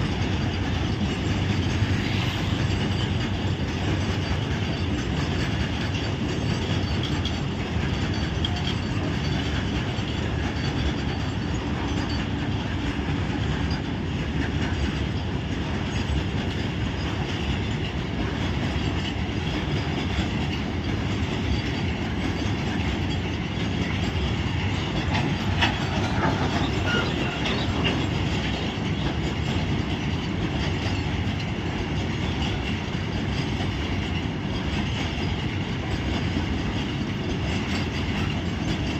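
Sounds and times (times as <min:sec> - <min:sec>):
clickety-clack over rail joints: 0:00.0 - 0:38.9
freight train wheels rumbling: 0:00.0 - 0:38.9
wheel squeal: 0:00.0 - 0:38.9.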